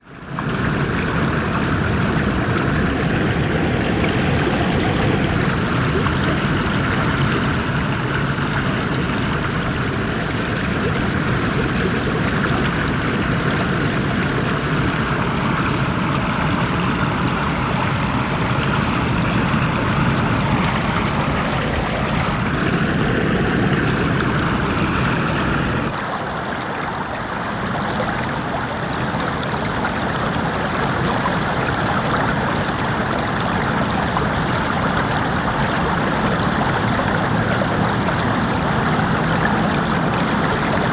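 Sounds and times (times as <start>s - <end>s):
water stream running: 0.0s - 40.9s.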